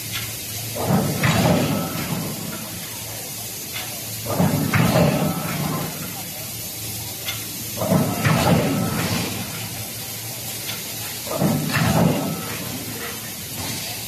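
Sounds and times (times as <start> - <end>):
loud bursts of machine noise: 0.0 - 14.0
production line machinery running: 0.0 - 14.0
steady hiss: 0.0 - 14.0.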